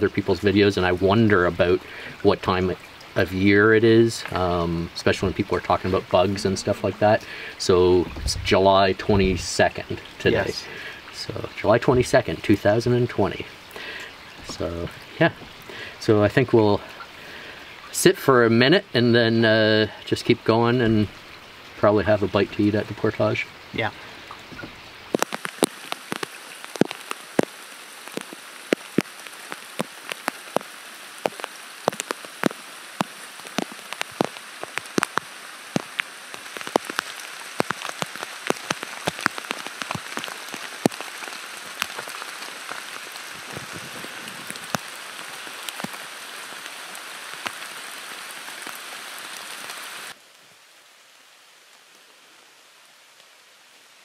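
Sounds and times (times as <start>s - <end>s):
faint hiss: 0.0s - 54.0s
steady rain: 0.0s - 54.0s.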